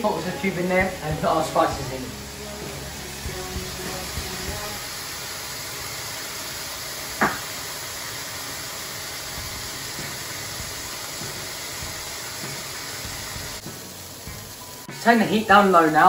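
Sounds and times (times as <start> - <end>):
vegetables sizzling in pan: 0.0 - 16.0.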